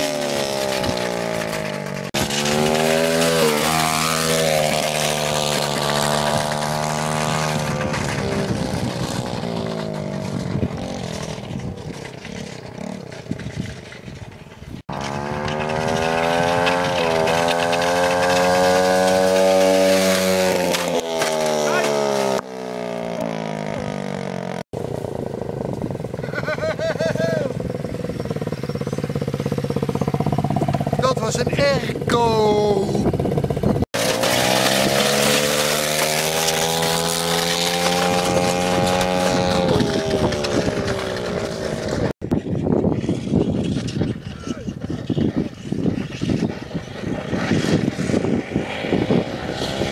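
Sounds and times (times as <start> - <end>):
motorbike engine running: 0.0 - 49.9.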